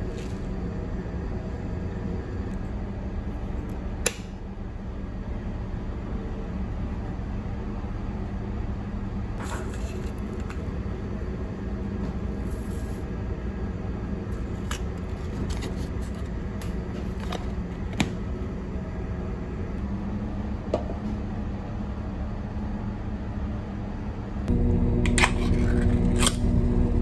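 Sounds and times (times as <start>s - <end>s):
low drone of ship engines: 0.0s - 27.0s.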